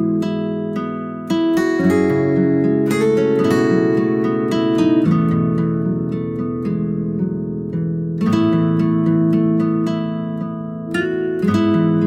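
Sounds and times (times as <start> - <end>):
gently strummed acoustic guitar: 0.0 - 12.0.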